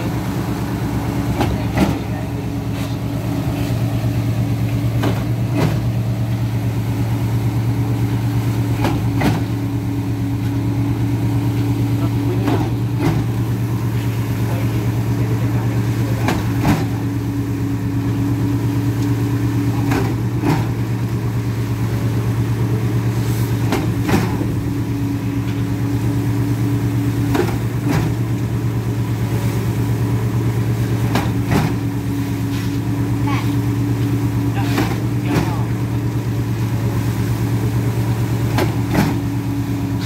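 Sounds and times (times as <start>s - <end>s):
diesel engine humming: 0.0s - 40.0s.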